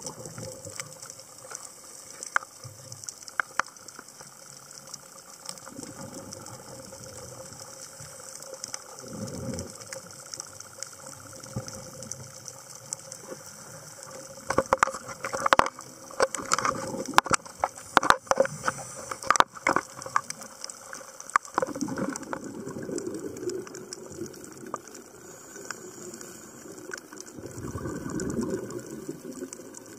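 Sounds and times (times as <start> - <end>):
scuba exhaust bubbles: 0.0 - 2.8, 5.0 - 29.9
underwater hiss: 0.0 - 29.9.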